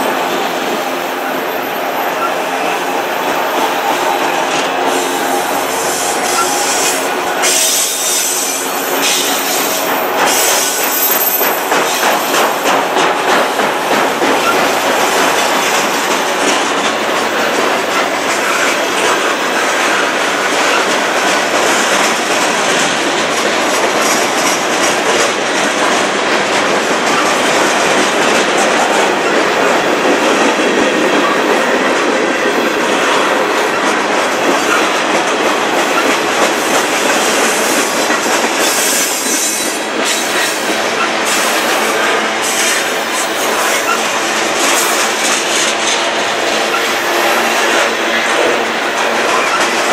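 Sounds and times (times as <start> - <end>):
freight cars rumbling and rattling: 0.0 - 49.9
train wheels clicking over rail joints: 0.0 - 49.9.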